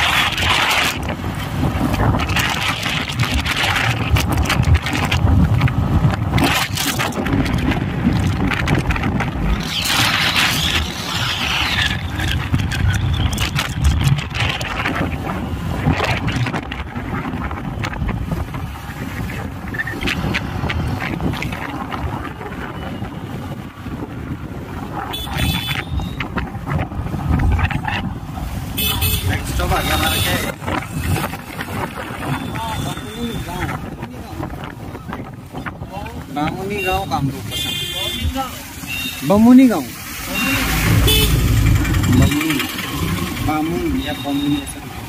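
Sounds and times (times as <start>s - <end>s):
wind buffeting microphone: 0.0s - 39.0s, 39.9s - 45.0s
vehicle engine and tyre rumble: 0.0s - 45.0s.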